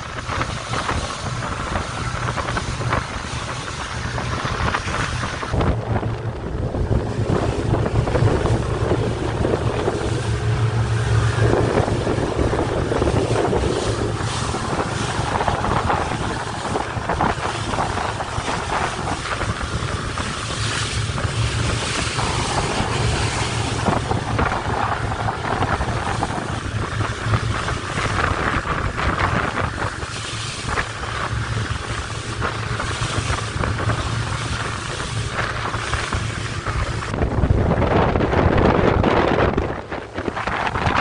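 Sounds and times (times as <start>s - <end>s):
outboard engine drone: 0.0s - 41.0s
water rushing past hull: 0.0s - 41.0s
wind buffeting microphone: 0.0s - 41.0s.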